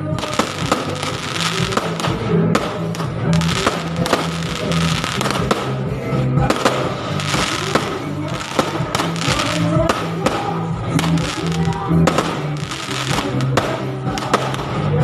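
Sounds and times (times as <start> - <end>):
fireworks bangs and crackles: 0.0 - 15.0
loud music with bass line: 0.0 - 15.0.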